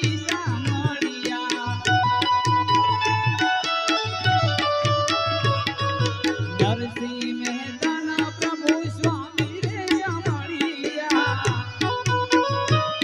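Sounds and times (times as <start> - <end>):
hand drums beating: 0.0 - 13.0
harmonium playing melody: 0.0 - 13.0.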